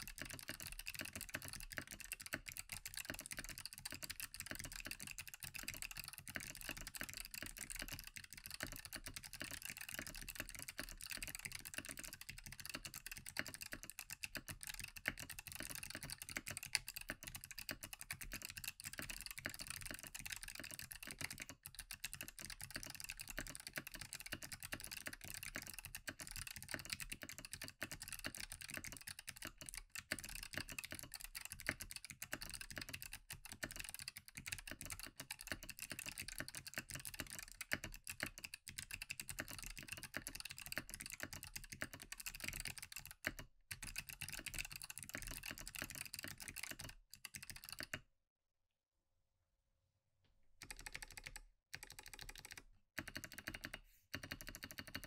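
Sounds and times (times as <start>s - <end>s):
fast typing on mechanical keyboard: 0.0s - 48.0s, 50.6s - 55.0s.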